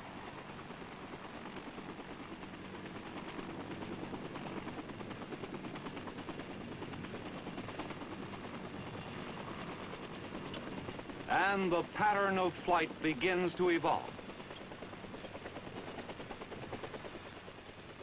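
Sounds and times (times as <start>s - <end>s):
helicopter rotor beat: 0.0s - 18.0s.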